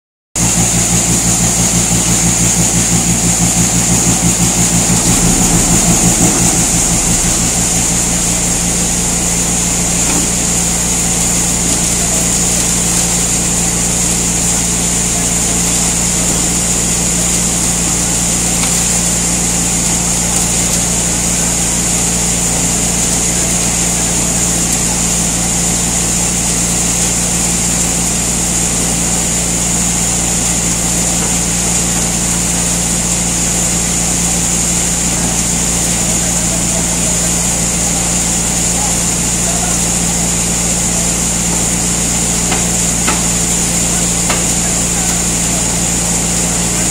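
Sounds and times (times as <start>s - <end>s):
concrete mixer machine drone: 0.4s - 46.9s.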